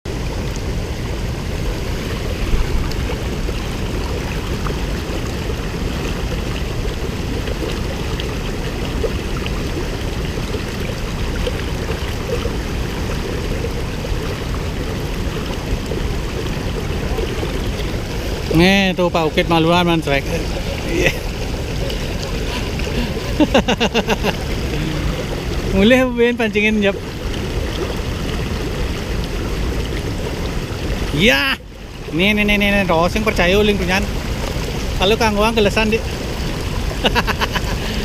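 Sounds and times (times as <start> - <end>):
river water rushing: 0.1 - 38.0.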